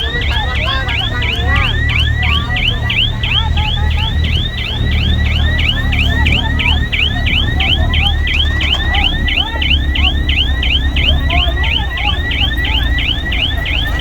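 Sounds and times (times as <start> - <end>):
heavy diesel machinery running: 0.0 - 14.0
rapid sweeping warning alarm: 0.0 - 14.0.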